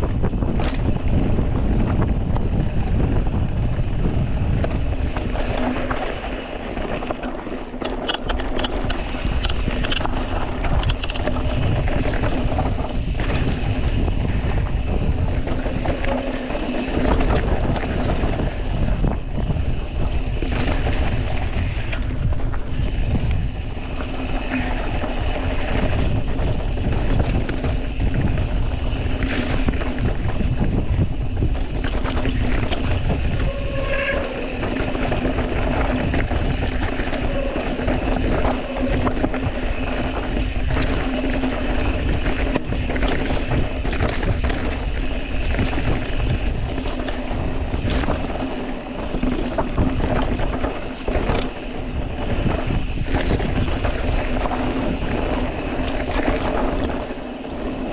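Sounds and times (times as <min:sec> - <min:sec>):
bike clicks and rattles: 0:00.0 - 0:57.9
tyres rolling on dirt: 0:00.0 - 0:57.9
wind on microphone: 0:00.0 - 0:57.9.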